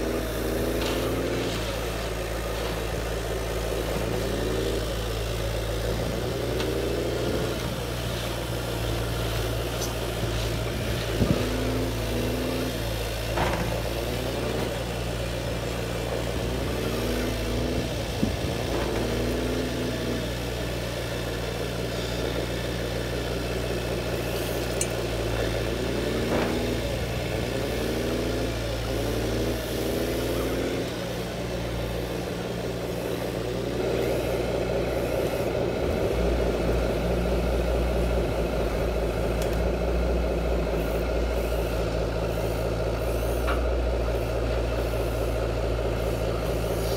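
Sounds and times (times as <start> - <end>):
simulated diesel engine idle: 0.0 - 46.9.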